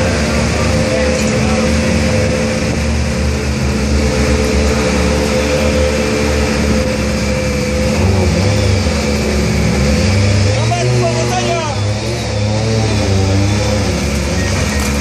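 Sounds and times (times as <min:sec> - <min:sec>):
engine droning steadily: 0:00.0 - 0:15.0.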